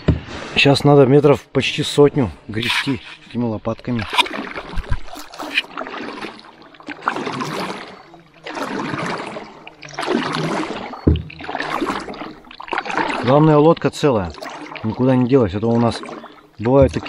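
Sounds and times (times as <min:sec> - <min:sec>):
paddles splashing in water: 0:02.6 - 0:17.0.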